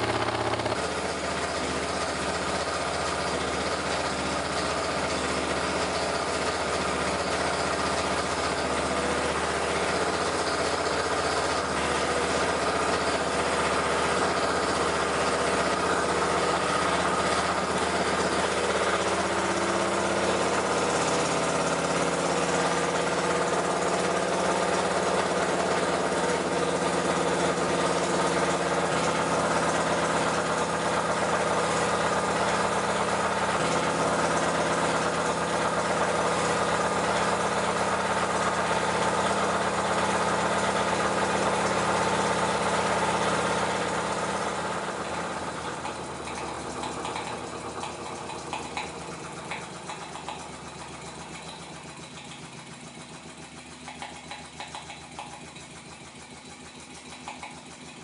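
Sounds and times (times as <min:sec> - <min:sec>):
model steam engine clattering: 0:00.0 - 0:58.0.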